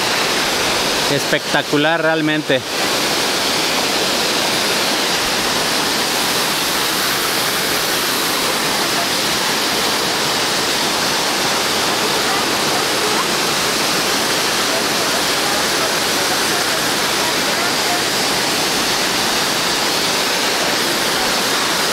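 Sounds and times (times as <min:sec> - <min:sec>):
waterfall crashing onto rocks: 0:00.0 - 0:21.9.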